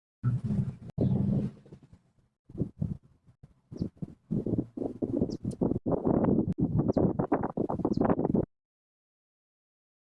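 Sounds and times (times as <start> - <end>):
wind buffeting microphone: 0.2 - 8.5.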